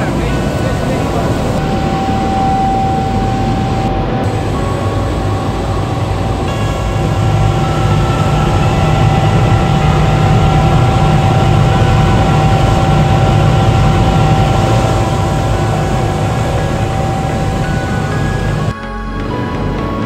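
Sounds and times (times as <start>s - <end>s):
high whine: 0.0s - 20.0s
industrial machinery drone: 0.0s - 20.0s.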